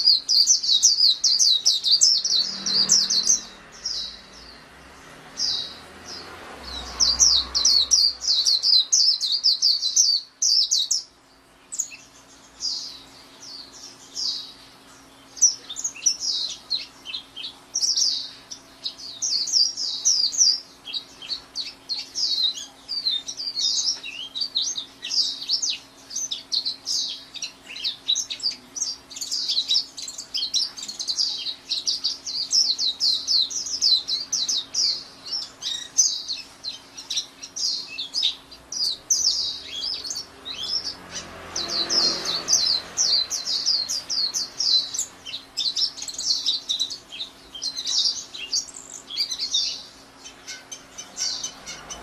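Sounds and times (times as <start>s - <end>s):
bird twittering high chirps: 0.0s - 52.0s.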